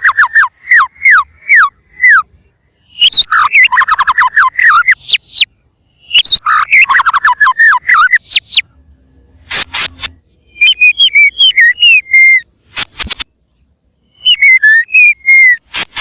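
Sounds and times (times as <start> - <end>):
bird song whistles and chatter: 0.0 - 8.7, 9.4 - 16.0.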